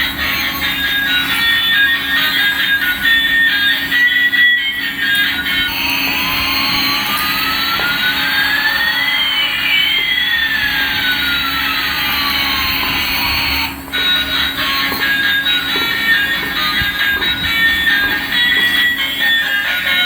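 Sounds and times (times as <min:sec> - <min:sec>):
jet engine rushing with whines: 0:00.0 - 0:20.0.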